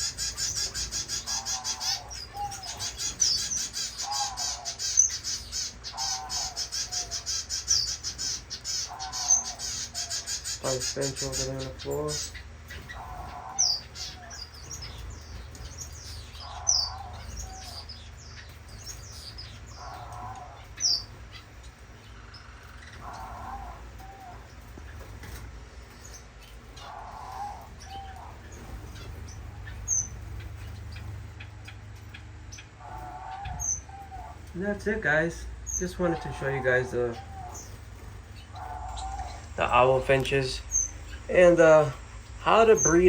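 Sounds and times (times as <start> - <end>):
finches chirping: 0.0 - 43.0.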